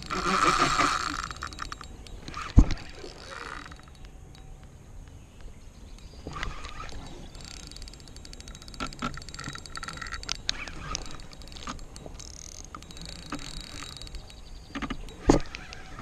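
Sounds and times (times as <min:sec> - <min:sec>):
fishing reel clicking: 0:00.0 - 0:04.5, 0:06.0 - 0:16.0.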